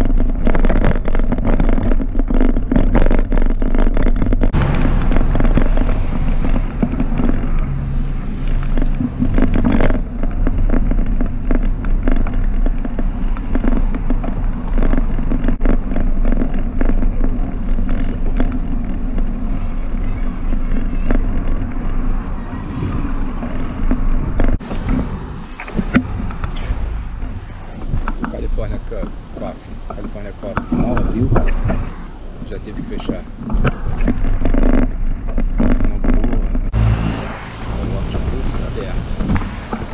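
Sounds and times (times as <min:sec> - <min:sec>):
bike rattling over rough pavement: 0:00.0 - 0:36.8, 0:37.6 - 0:39.9
wind and road rumble: 0:00.0 - 0:39.9.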